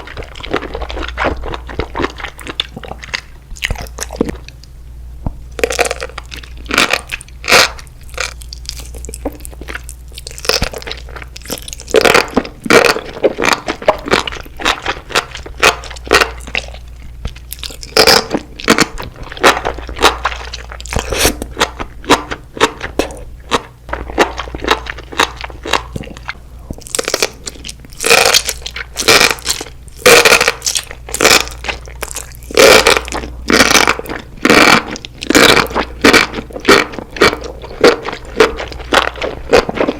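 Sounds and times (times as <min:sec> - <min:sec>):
crunching and chewing food: 0:00.0 - 0:04.7, 0:05.5 - 0:39.9
faint low hum: 0:00.0 - 0:39.9.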